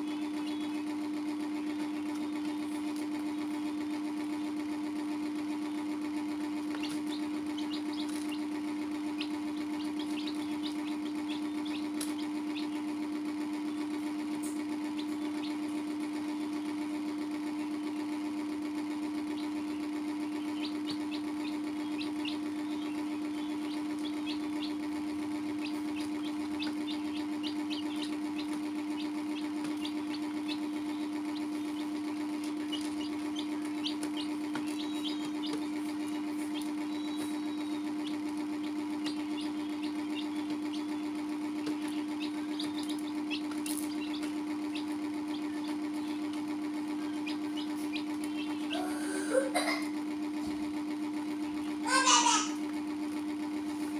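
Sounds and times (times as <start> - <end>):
baby chicks peeping: 0.0 - 53.9
machine hum with fast flutter: 0.0 - 53.9.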